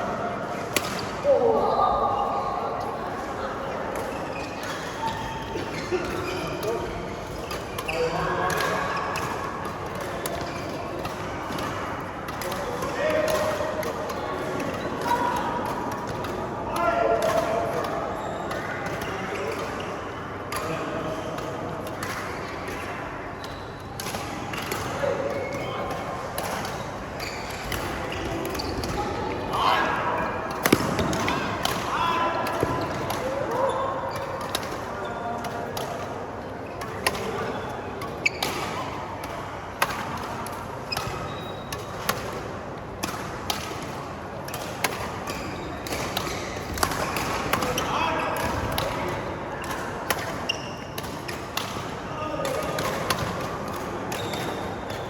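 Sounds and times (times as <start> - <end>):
racket hitting shuttlecock: 5.8 - 19.8, 20.5 - 55.0.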